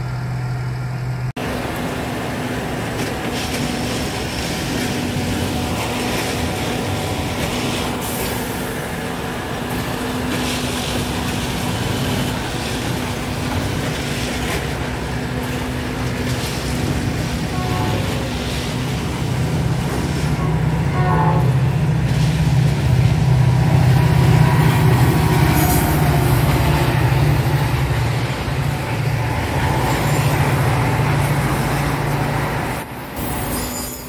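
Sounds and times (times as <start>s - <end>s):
heavy diesel equipment running: 0.0s - 33.5s.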